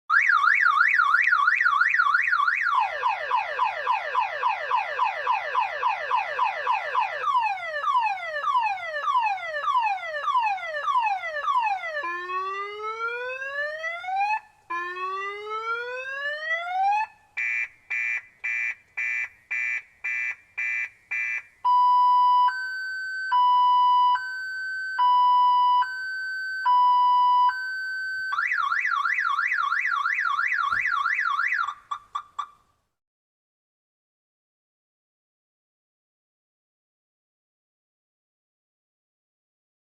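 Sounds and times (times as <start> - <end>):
car alarm siren: 0.1 - 32.6.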